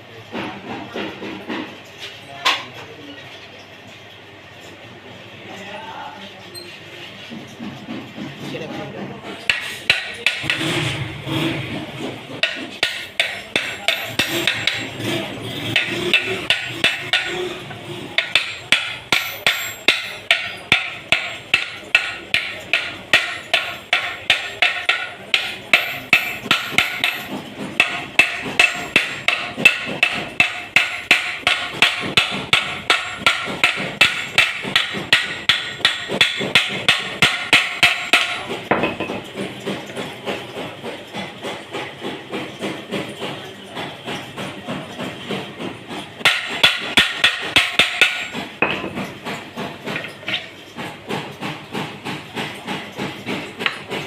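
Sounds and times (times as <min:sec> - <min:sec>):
hammer striking metal: 0:09.4 - 0:54.0.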